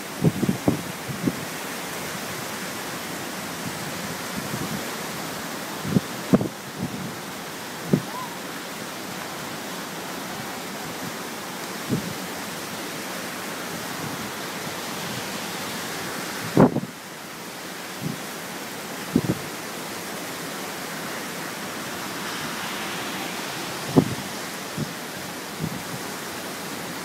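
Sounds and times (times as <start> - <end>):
wind gusts thumping microphone: 0.0 - 8.3, 9.0 - 17.1, 17.8 - 27.0
surf: 0.0 - 27.0
wind blowing: 0.0 - 27.0.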